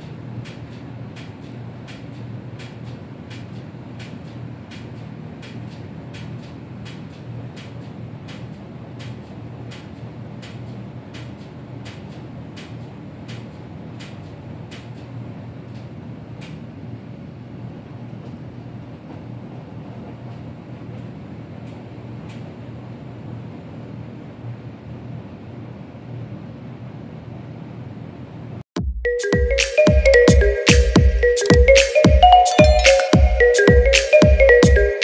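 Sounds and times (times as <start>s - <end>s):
low mechanical hum: 0.0s - 28.6s.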